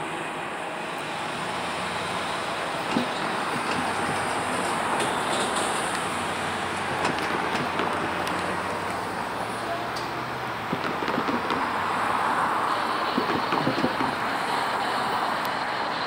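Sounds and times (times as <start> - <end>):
freight train wheels on rails: 0.0 - 16.0
rail clicks: 2.4 - 16.0.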